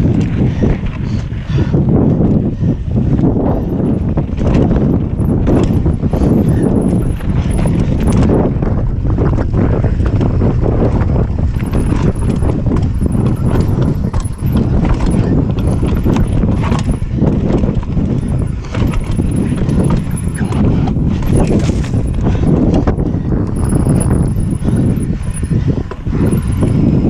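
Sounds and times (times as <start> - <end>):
bike rattling and knocking: 0.0 - 27.0
wind rumble on microphone: 0.0 - 27.0.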